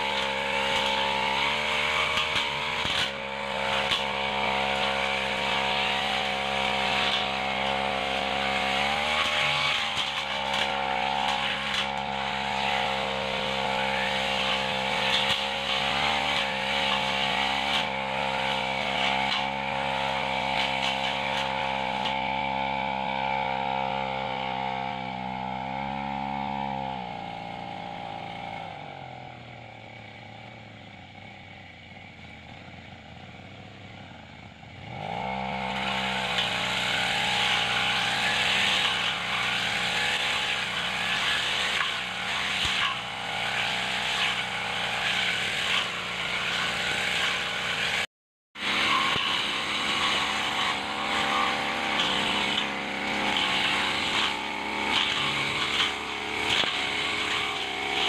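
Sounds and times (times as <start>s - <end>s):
brush cutter engine revving: 0.0s - 29.4s, 34.8s - 58.0s.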